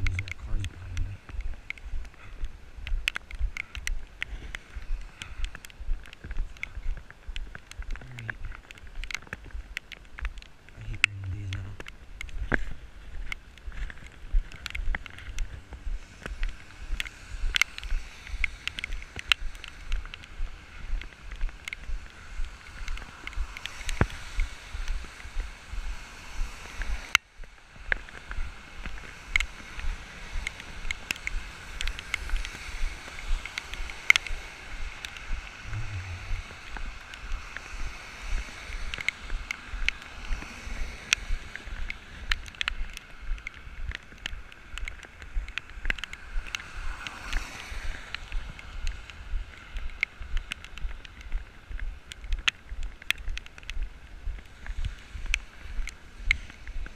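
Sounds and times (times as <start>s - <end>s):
rain and wind hiss: 0.0s - 56.9s
sharp ticks: 0.0s - 56.9s.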